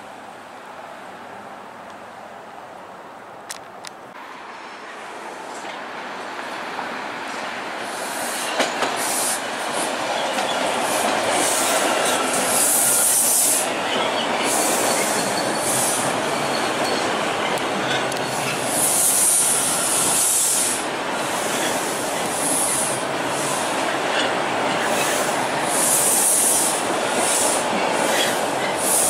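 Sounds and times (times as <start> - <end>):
subway train rumbling on rails: 4.1 - 29.0
high hissing from train wheels: 4.5 - 29.0.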